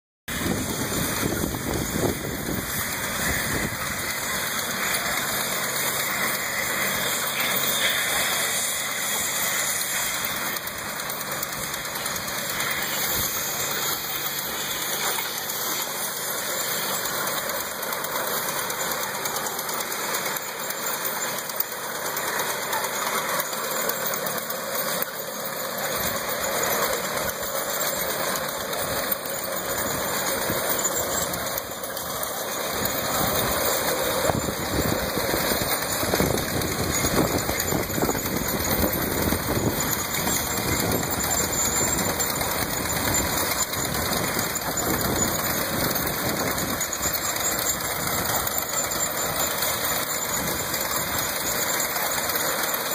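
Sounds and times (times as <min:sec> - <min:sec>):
tractor engine running: 0:00.3 - 0:52.9.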